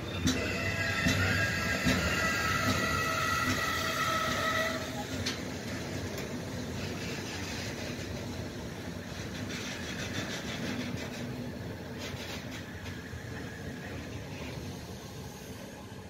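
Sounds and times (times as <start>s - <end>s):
train wheels squealing: 0.0s - 5.7s, 6.6s - 8.3s, 8.9s - 16.0s
train wheels rolling on rails: 0.0s - 16.0s.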